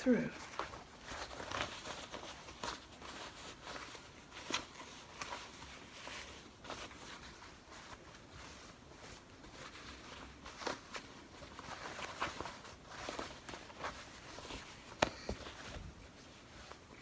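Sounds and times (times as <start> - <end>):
fabric rustling and crumpling: 0.0 - 17.0.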